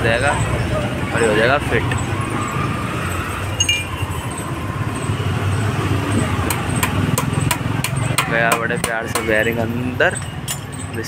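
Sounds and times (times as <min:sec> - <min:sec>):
rumble of passing traffic: 0:00.0 - 0:11.0.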